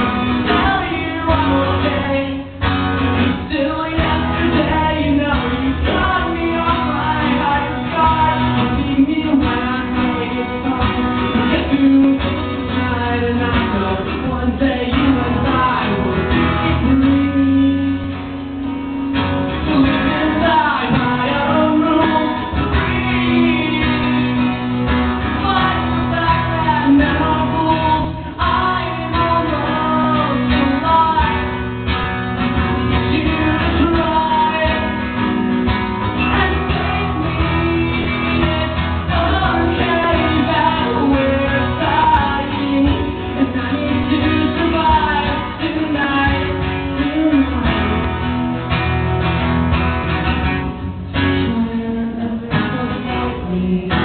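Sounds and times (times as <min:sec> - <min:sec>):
man singing into a microphone: 0:00.0 - 0:31.7, 0:32.8 - 0:35.5, 0:36.1 - 0:48.2, 0:51.2 - 0:54.0
acoustic guitar: 0:00.0 - 0:54.0.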